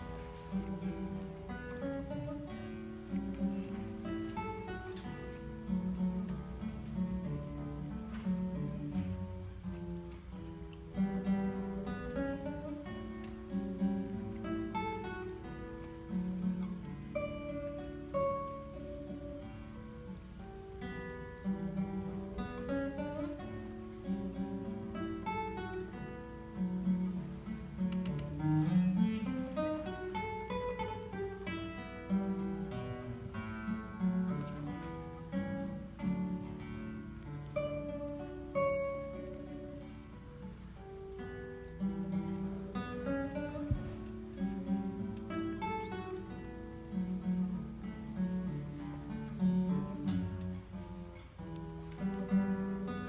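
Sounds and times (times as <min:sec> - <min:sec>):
classical guitar fingerstyle: 0:00.0 - 0:53.0.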